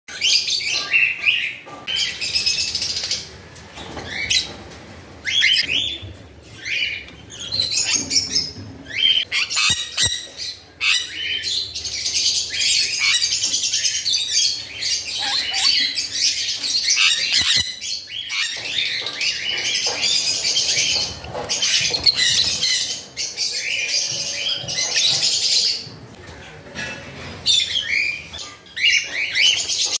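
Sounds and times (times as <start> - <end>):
parrots chirping and squawking: 5.2 - 30.0.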